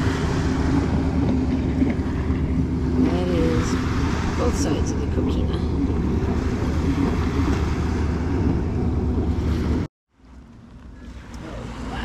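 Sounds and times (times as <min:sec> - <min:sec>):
surf at shoreline: 0:00.0 - 0:09.9, 0:10.8 - 0:12.0
wind rumbling on microphone: 0:00.0 - 0:09.9.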